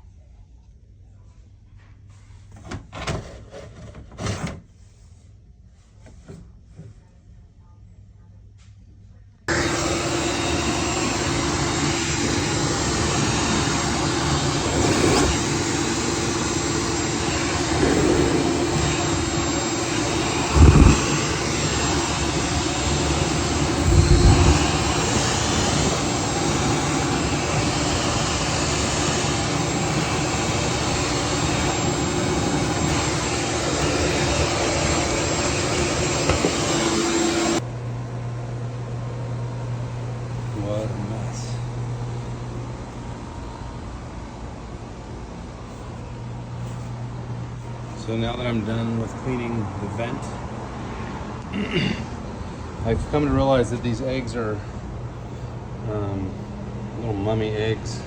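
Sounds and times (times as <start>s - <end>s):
air blower rushing whine: 9.5s - 58.0s.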